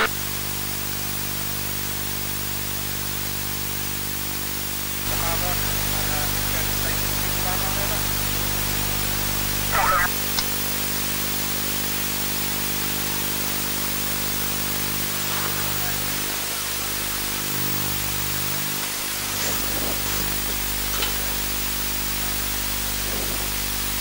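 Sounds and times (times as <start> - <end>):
static hiss: 0.0 - 24.0.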